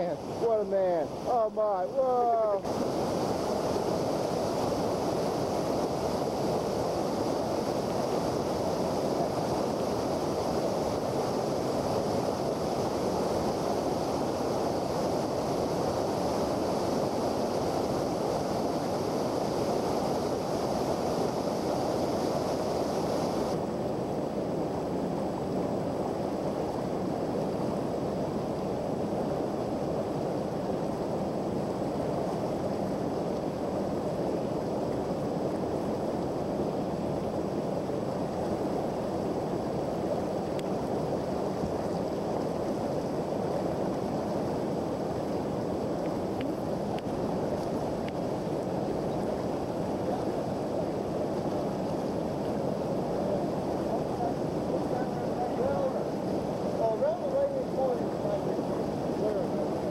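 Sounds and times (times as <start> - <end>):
whitewater rushing over rocks: 0.0 - 59.9.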